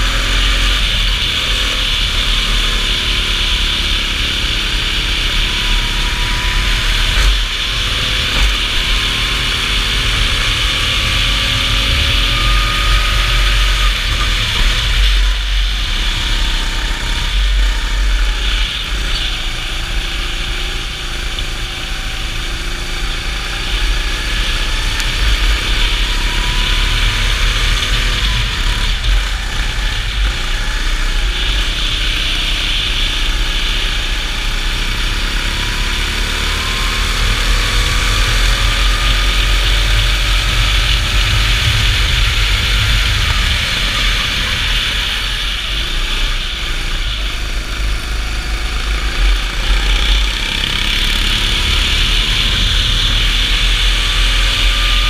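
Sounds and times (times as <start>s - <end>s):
go-kart engine accelerating: 0.0s - 55.0s.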